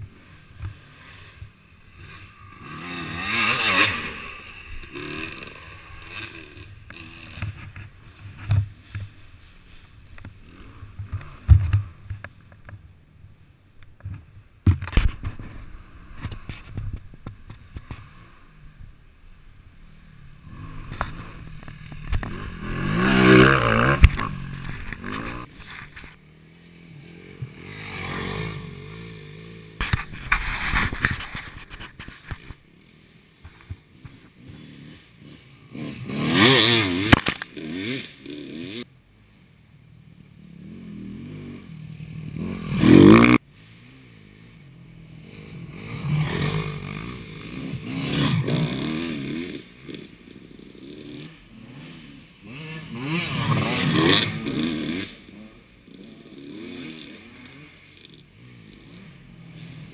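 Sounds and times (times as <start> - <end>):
dirt bikes revving past: 0.0 - 12.5, 17.4 - 18.9, 19.7 - 59.9.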